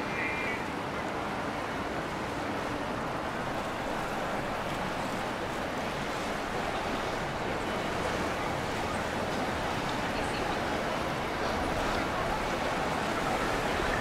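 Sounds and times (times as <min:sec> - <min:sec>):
rushing water: 0:00.0 - 0:14.0
wind: 0:00.0 - 0:14.0.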